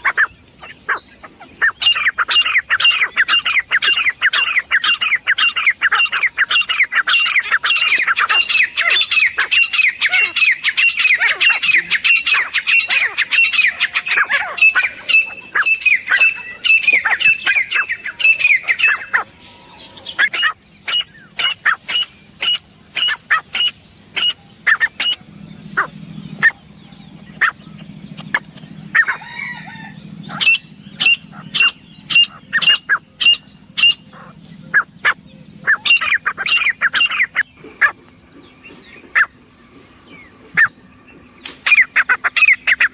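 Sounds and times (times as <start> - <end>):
francolin calling: 0.0 - 42.9.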